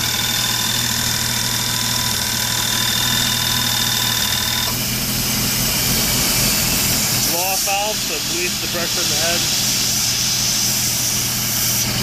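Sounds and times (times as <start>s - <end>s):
compressor whine: 0.0s - 12.0s
engine hum: 0.0s - 12.0s.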